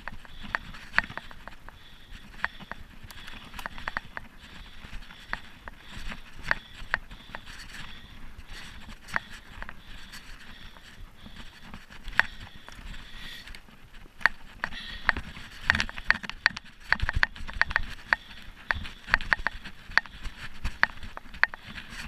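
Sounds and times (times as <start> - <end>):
bike clicking and rattling: 0.0 - 22.0
bike tyres rolling on dirt: 0.0 - 22.0.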